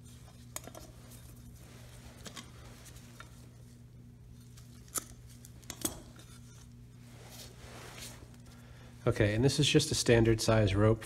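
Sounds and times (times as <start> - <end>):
rustling of gloved hands: 0.0 - 9.0
steady low hum: 0.0 - 11.0.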